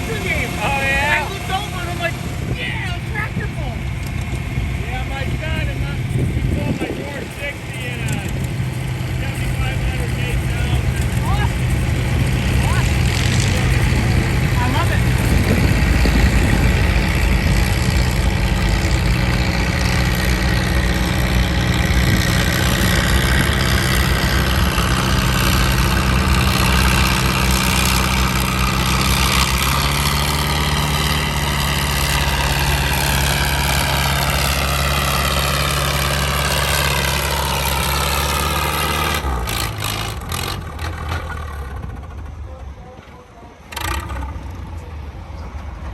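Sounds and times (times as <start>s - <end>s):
tractor engine running under load: 0.0s - 45.9s.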